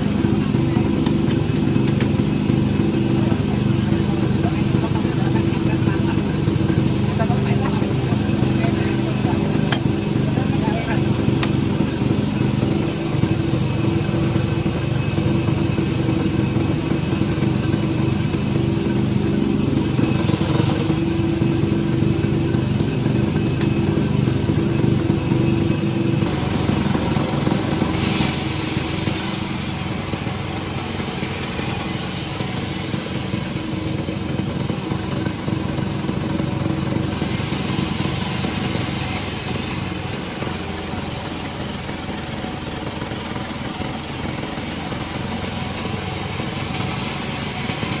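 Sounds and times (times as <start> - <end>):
hiss: 0.0 - 48.0
sawmill machinery drone: 0.0 - 48.0.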